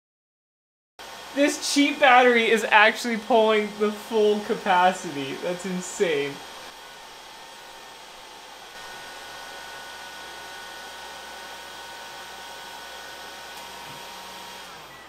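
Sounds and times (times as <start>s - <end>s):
heat gun blowing with faint whine: 1.0s - 15.0s.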